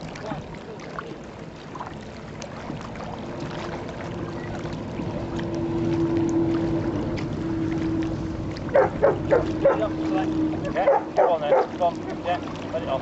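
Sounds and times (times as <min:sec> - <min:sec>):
rushing water: 0:00.0 - 0:13.0
small boat motor running: 0:00.0 - 0:13.0.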